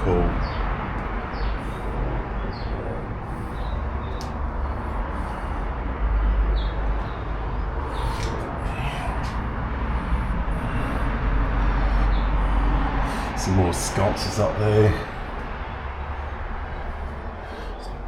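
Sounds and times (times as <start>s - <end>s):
birds chirping: 0.0s - 18.0s
low rumble: 0.0s - 18.0s.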